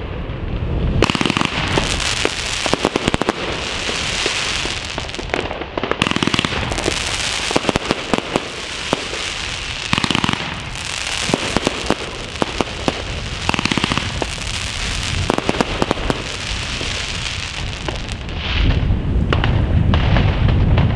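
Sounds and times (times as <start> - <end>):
firework crackling and fizzing: 0.7 - 20.7
firework launch bangs: 1.0 - 20.9.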